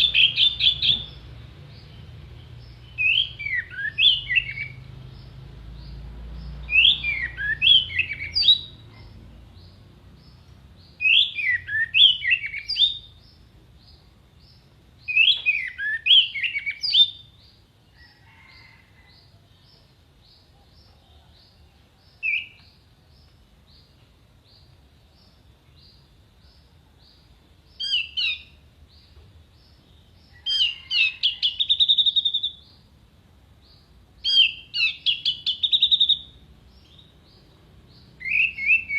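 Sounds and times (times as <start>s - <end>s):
thrush singing whistled notes: 0.0s - 8.8s, 9.6s - 17.7s, 22.2s - 22.9s, 24.5s - 32.9s, 33.7s - 38.9s.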